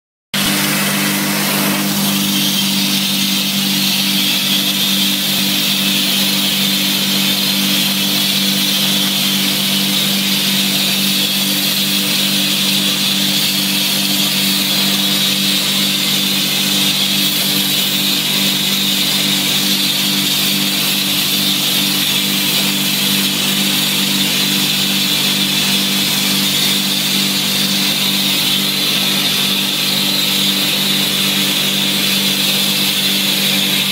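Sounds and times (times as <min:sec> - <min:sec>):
vacuum motor humming and whining: 0:00.4 - 0:33.9.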